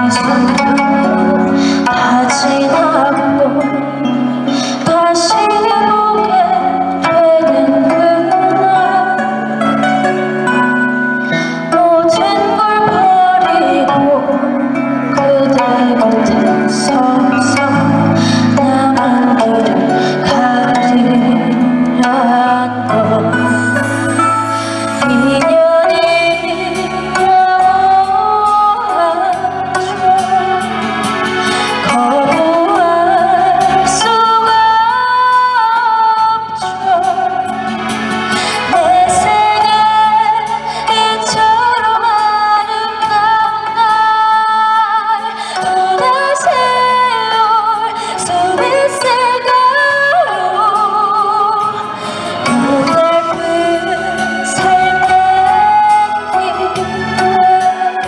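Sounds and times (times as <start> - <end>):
woman singing with vibrato: 0.0 - 10.7, 11.3 - 58.0
instrumental accompaniment: 0.0 - 58.0.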